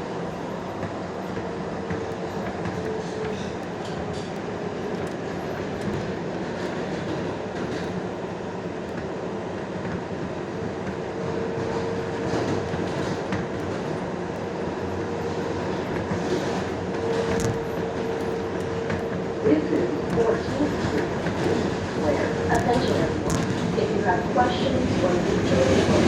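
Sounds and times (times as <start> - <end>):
subway car rumbling at speed: 0.0 - 26.0.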